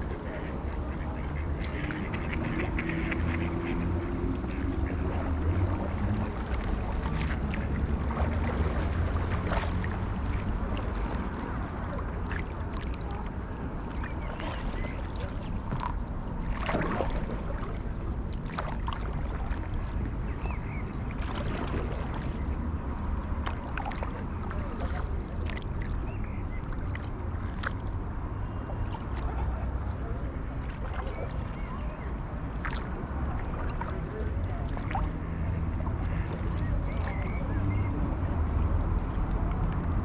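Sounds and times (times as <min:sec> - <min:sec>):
paddle strokes splashing water: 0:00.0 - 0:40.0
wind rumbling on microphone: 0:00.0 - 0:40.0.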